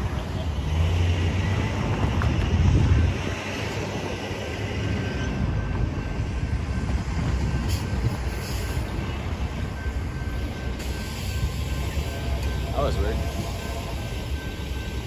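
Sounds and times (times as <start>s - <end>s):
low rumble of passing vehicles: 0.0s - 15.0s.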